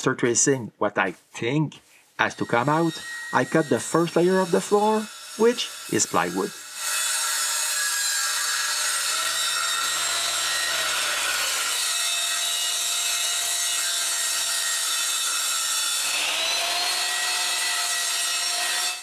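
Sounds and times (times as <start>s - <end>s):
power saw cutting plywood: 2.3s - 19.0s.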